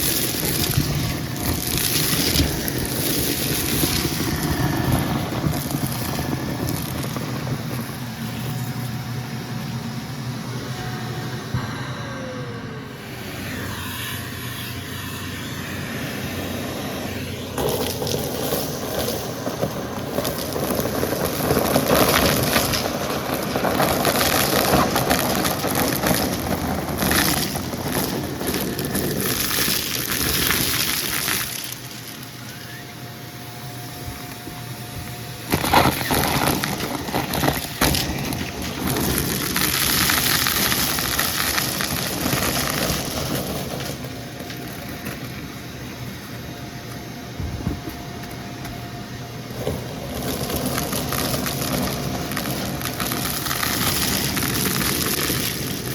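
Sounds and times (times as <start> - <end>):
vacuum cleaner crunching debris: 0.0 - 9.6, 15.1 - 55.9.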